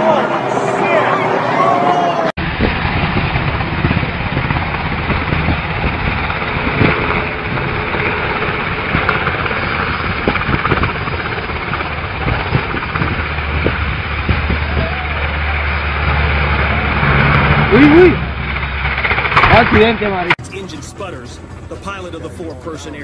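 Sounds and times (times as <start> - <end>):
helicopter flying low: 0.0 - 23.0
low hum: 0.0 - 23.0.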